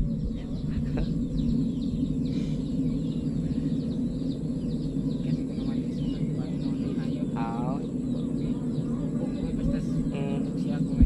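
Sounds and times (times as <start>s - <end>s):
birds chirping: 0.0s - 11.0s
low rumble: 0.0s - 11.0s.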